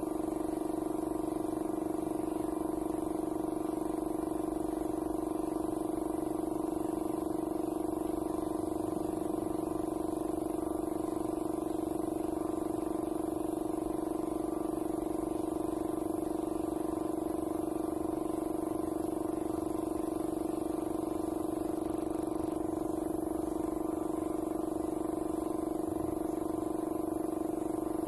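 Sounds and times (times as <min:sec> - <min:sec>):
air compressor humming: 0:00.0 - 0:28.0
faint hiss of air: 0:00.0 - 0:28.0.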